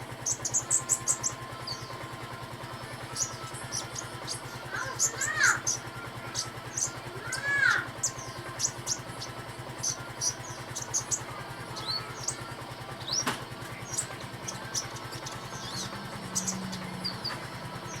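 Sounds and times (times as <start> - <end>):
low steady hum: 0.0 - 18.0
bird giving high chirps: 0.2 - 2.1, 2.8 - 18.0.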